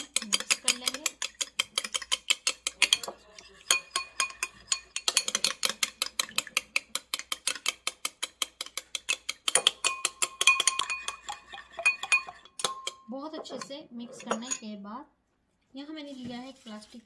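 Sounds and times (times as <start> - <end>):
spoon clinking in ceramic bowl: 0.0 - 14.7.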